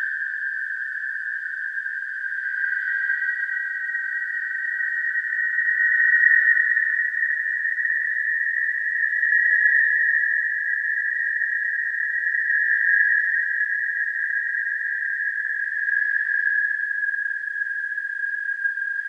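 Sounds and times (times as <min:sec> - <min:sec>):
high-pitched ringing tone: 0:00.0 - 0:19.0.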